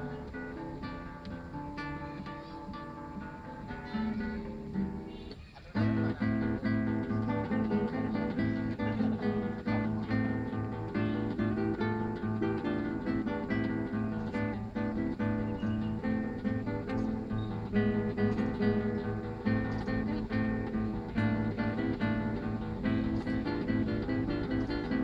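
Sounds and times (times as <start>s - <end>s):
plucked acoustic guitar: 0.0s - 25.0s.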